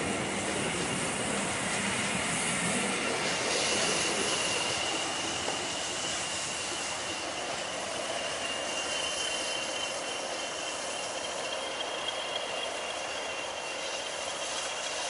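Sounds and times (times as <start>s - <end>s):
high wheel squeal: 0.0s - 15.0s
train wheels rumbling on rails: 0.0s - 15.0s.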